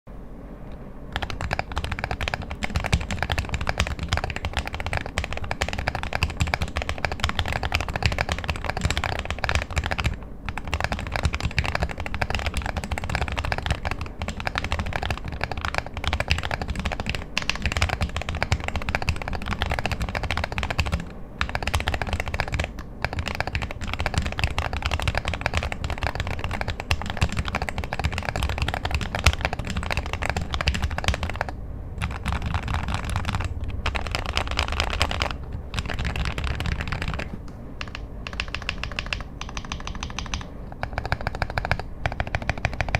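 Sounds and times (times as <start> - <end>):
fast typing on mechanical keyboard: 1.1 - 42.9.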